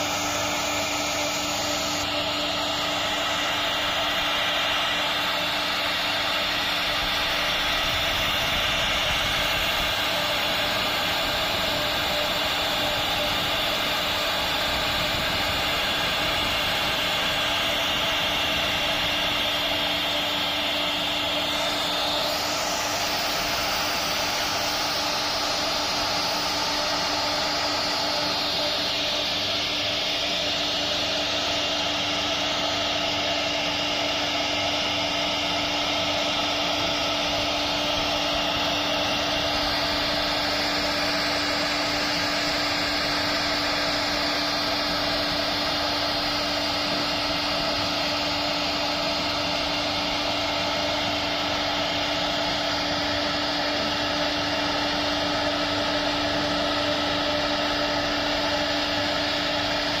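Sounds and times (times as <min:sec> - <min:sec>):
router spindle whine: 0:00.0 - 1:00.0.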